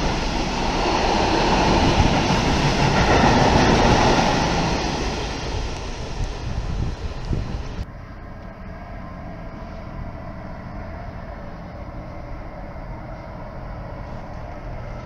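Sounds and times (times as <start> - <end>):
train wheel noise: 0.0 - 7.9, 9.2 - 15.0
distant locomotive rumble: 0.0 - 15.0
train passing: 0.0 - 15.0.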